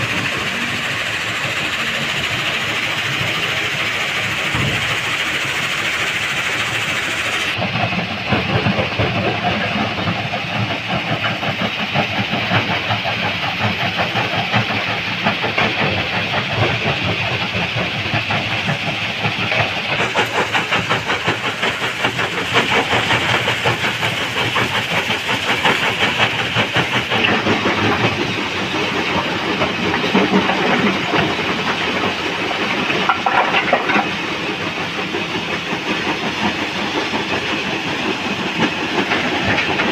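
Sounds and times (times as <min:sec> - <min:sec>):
heavy diesel machinery: 0:00.0 - 0:39.9.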